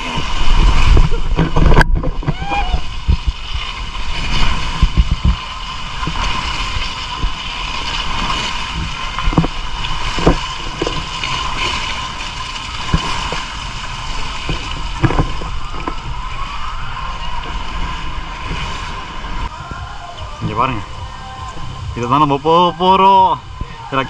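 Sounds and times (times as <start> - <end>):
water rushing and splashing: 0.0 - 24.0
wind buffeting microphone: 0.0 - 24.0.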